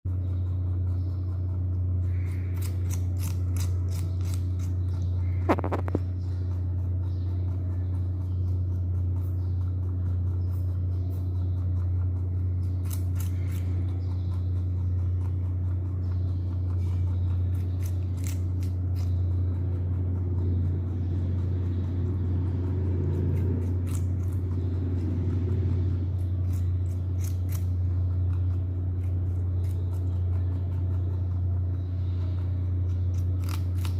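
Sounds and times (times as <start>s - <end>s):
rabbit chewing cucumber: 0.1s - 33.9s
steady low hum: 0.1s - 33.9s.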